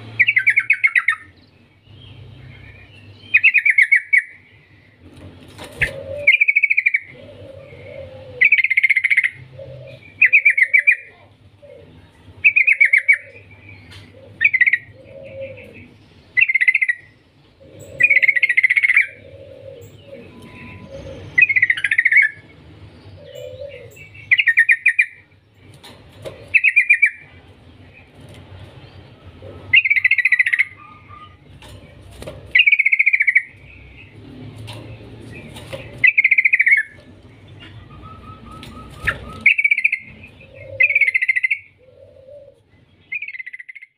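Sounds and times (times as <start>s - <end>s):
bird singing chattering phrases: 0.0s - 5.0s, 5.6s - 43.9s.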